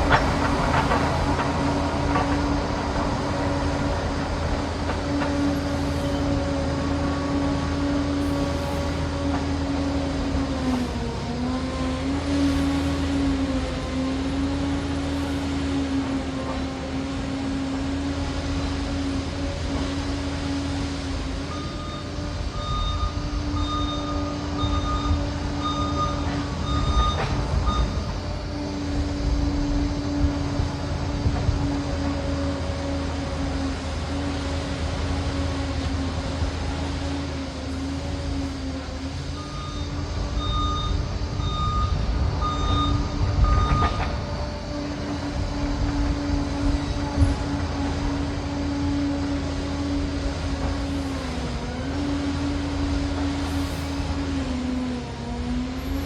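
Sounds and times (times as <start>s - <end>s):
crawler dozer engine whining: 0.0s - 56.0s.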